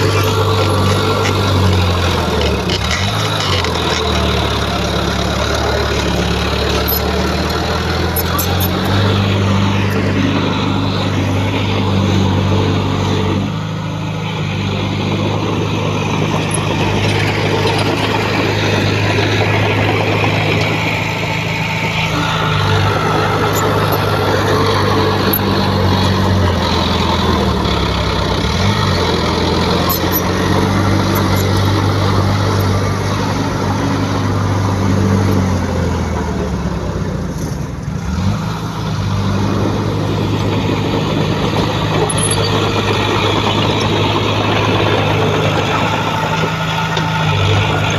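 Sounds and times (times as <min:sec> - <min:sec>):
heavy diesel engine under load: 0:00.0 - 0:47.9.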